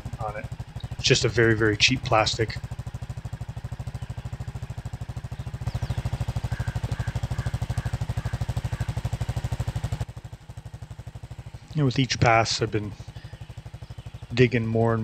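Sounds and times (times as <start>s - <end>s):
engine running thumping: 0.0s - 15.0s.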